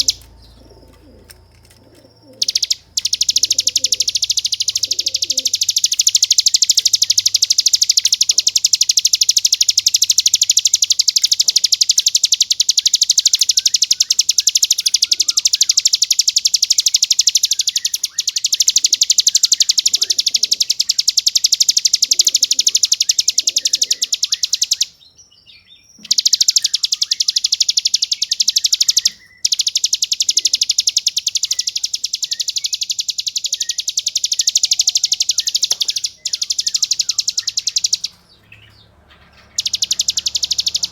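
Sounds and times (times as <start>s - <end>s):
bird singing fast rattling trill: 0.0s - 40.9s.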